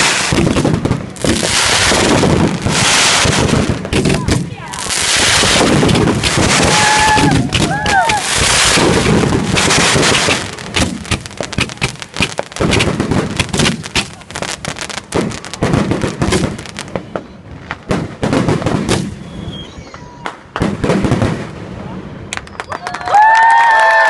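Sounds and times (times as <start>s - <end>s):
fireworks crackling: 0.0s - 22.6s.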